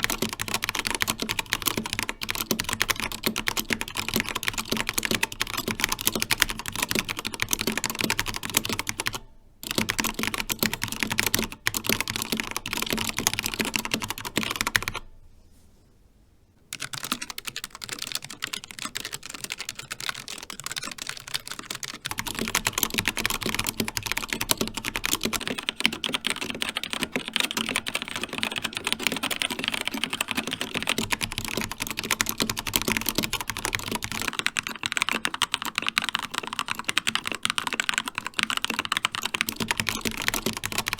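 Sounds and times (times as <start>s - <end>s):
fast typing on mechanical keyboard: 0.0s - 15.1s, 16.7s - 40.9s.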